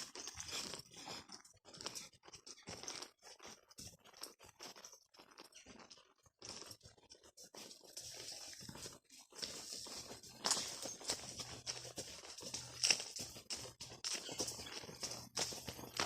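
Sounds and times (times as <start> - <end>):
hooves crunching on dirt: 0.0 - 16.0.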